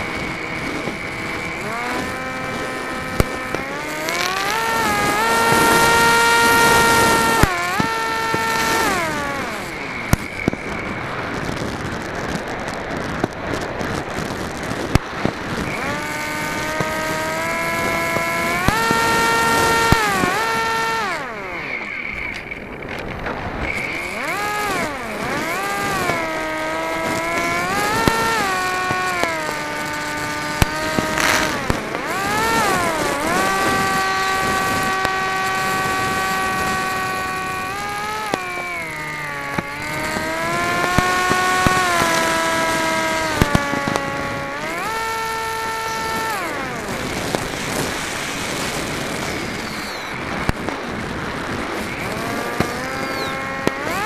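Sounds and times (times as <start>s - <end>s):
model aircraft motor whining: 0.0s - 54.0s
wind rush over microphone: 0.0s - 54.0s.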